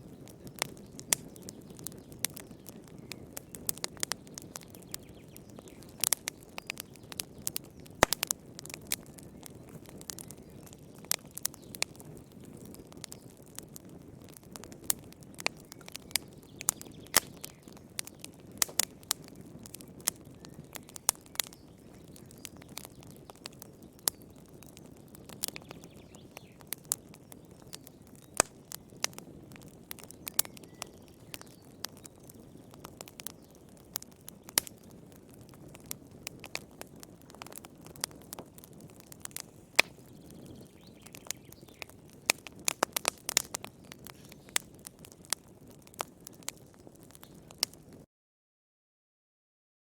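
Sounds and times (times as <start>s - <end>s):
low rush of flames: 0.0s - 25.8s, 28.1s - 48.0s
firewood crackling and popping: 0.0s - 48.0s.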